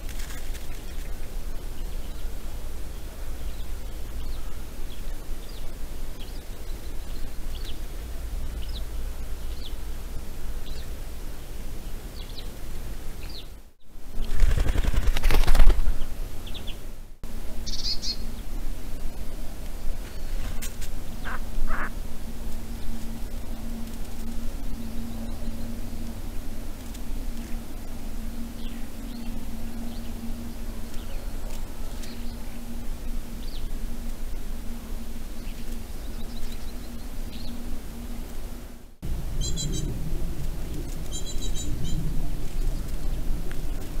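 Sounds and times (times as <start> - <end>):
steady hiss: 0.0 - 14.4, 15.7 - 44.0
small birds chirping: 0.0 - 16.8, 17.5 - 44.0.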